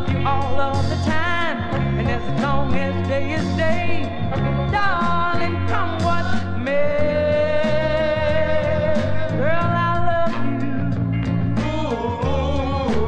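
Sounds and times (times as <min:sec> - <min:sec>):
person singing long notes: 0:00.0 - 0:10.6, 0:11.6 - 0:13.0
backing band with steady beat: 0:00.0 - 0:13.0.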